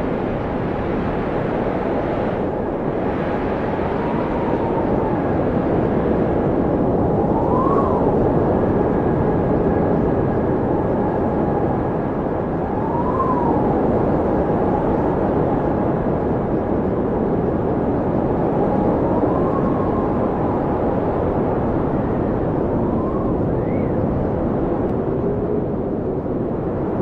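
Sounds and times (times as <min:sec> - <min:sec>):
blizzard wind rushing: 0:00.0 - 0:27.0
howling wind whistle: 0:00.0 - 0:27.0.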